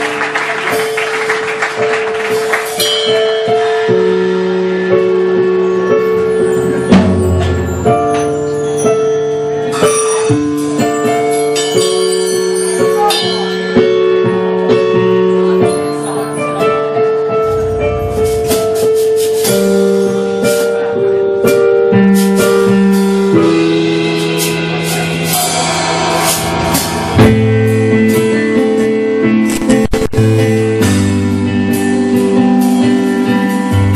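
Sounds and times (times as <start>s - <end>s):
held keyboard chords: 0.0s - 33.9s.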